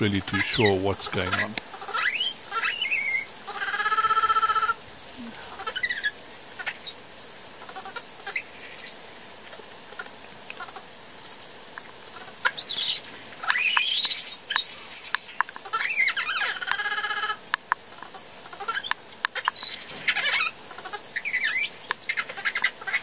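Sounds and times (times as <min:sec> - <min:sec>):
infant monkey calling: 0:00.0 - 0:07.0, 0:07.6 - 0:09.0, 0:12.1 - 0:17.4, 0:18.0 - 0:23.0.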